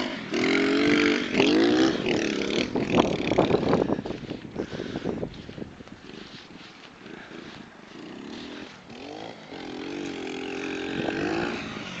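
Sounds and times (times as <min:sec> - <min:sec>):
pit bike engine revving: 0:00.0 - 0:12.0.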